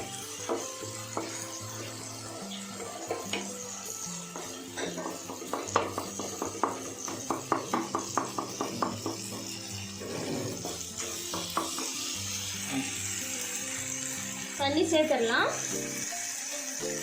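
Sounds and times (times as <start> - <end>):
soft frying sizzle: 0.0 - 17.0.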